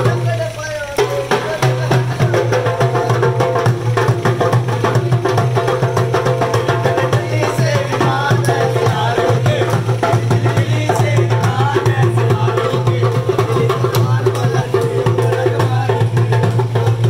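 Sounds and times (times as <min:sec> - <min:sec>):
hand drums beating: 0:00.0 - 0:17.0
voices singing: 0:00.0 - 0:17.0.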